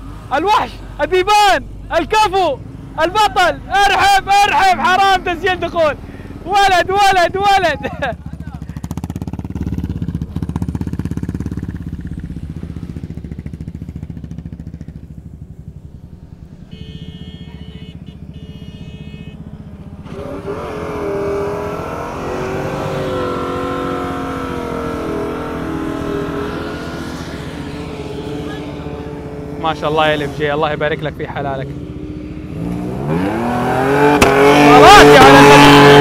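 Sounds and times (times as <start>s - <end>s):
truck engine revving: 0.0s - 36.0s.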